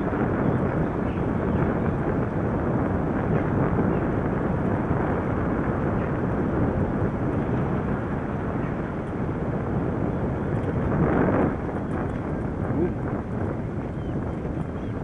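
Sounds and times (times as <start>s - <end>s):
bicycle road noise: 0.0s - 15.0s
wind rumble on microphone: 0.0s - 15.0s.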